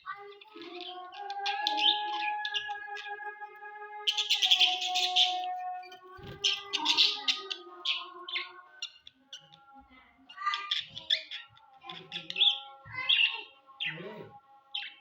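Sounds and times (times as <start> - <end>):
budgerigars chirping: 0.0 - 3.2, 4.0 - 9.6, 10.3 - 15.0.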